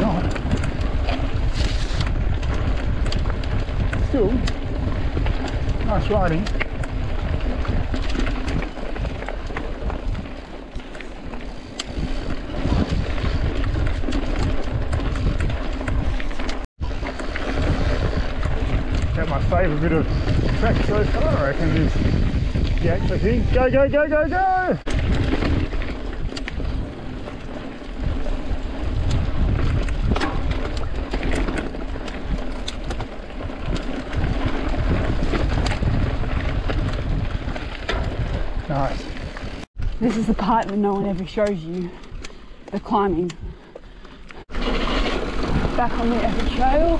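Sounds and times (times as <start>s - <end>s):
bike rattling clicks and knocks: 0.0s - 23.0s, 24.8s - 46.9s
tyre noise on dirt trail: 0.0s - 46.9s
wind rumble on microphone: 0.0s - 46.9s.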